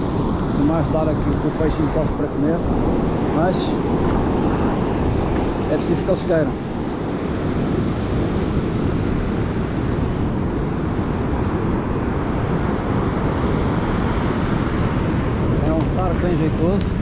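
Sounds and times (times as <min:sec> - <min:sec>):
surf rumbling on a beach: 0:00.0 - 0:17.0
wind buffeting microphone: 0:00.0 - 0:17.0.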